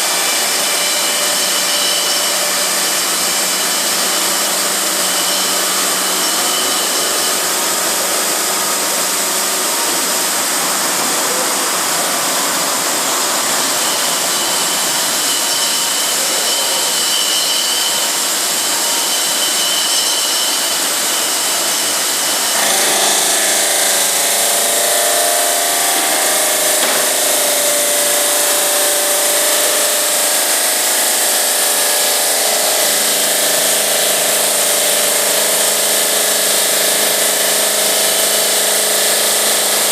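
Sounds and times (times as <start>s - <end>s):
saw blade grinding stone: 0.0s - 39.9s.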